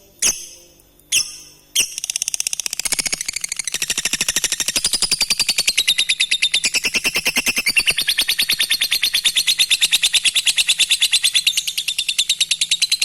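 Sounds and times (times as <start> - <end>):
lovebird chattering: 0.2 - 13.0.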